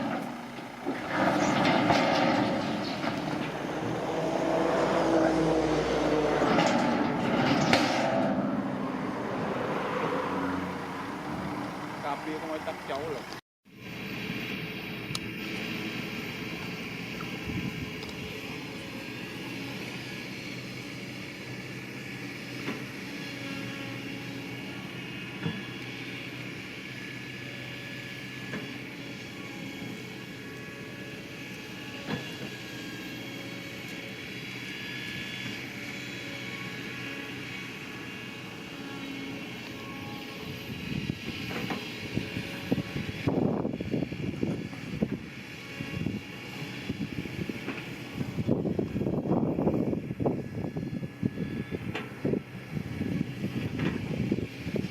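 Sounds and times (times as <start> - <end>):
heavy machine diesel engine running: 0.0 - 54.9.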